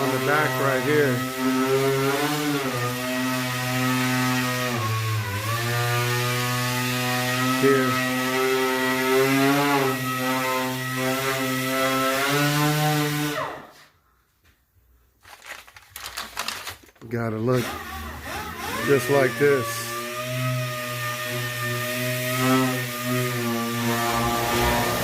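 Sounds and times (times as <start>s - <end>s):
power tool motor running: 0.0s - 13.7s, 17.5s - 25.0s.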